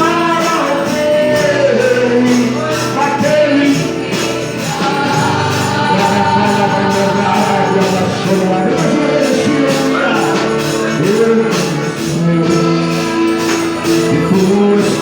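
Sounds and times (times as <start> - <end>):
band accompaniment: 0.0 - 15.0
person singing: 0.0 - 15.0
tambourine-like percussion: 0.0 - 15.0.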